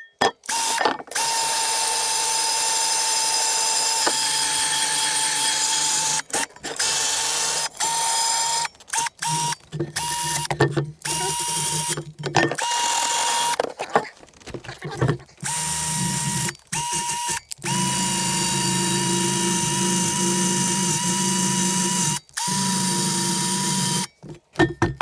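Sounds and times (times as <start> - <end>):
drill motor whine: 0.5 - 12.0, 12.6 - 13.6, 15.4 - 24.1.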